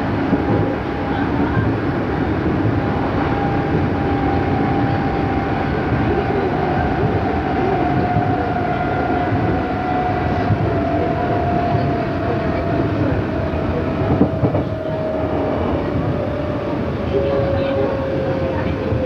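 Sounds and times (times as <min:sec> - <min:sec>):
electric train whine: 0:00.0 - 0:19.0
rail noise: 0:00.0 - 0:19.0.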